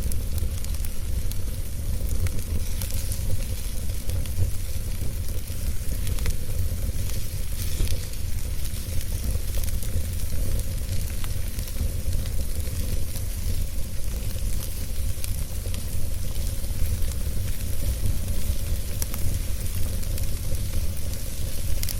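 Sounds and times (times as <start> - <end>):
fire crackling and popping: 0.0 - 21.9
wood fire rumbling and hissing: 0.0 - 21.9.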